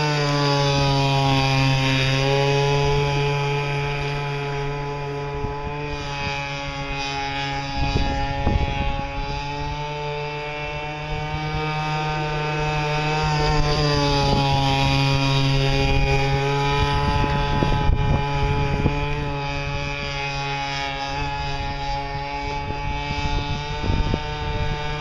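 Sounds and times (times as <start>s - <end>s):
model boat engine high buzz: 0.0s - 25.0s.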